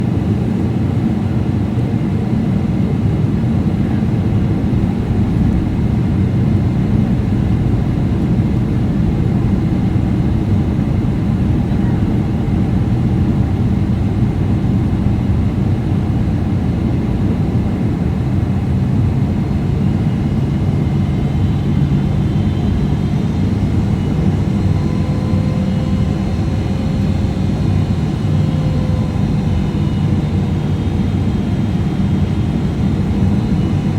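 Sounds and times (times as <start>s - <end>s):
airplane cabin drone: 0.0s - 33.9s.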